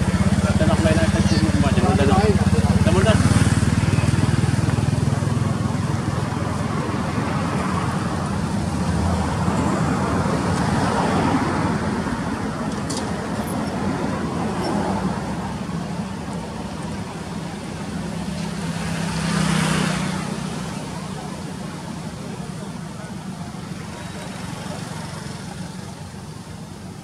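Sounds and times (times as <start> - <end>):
vehicle passing: 0.0 - 26.1
road traffic: 0.0 - 27.0.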